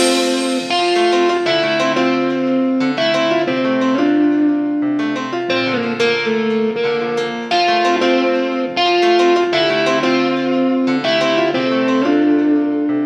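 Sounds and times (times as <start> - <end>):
keyboard melody of held notes: 0.0 - 13.0.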